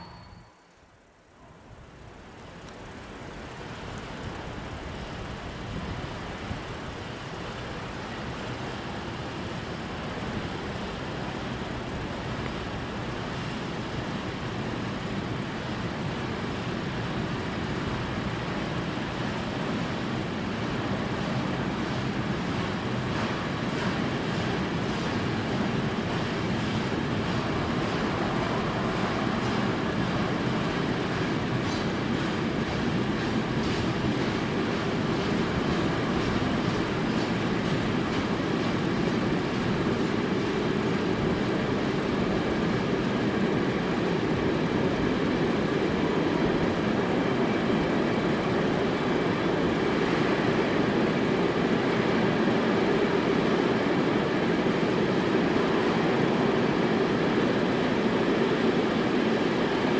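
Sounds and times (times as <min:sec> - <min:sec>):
train wagons rumbling on rails: 0:05.7 - 0:59.9.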